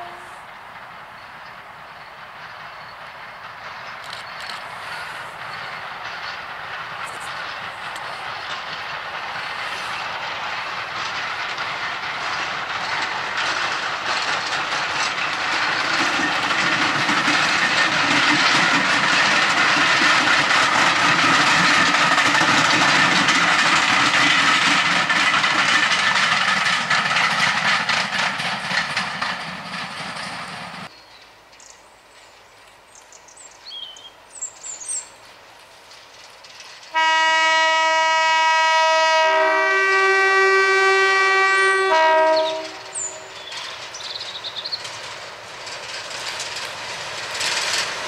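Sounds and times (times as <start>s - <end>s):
train wheels clicking over rail joints: 0.0s - 48.0s.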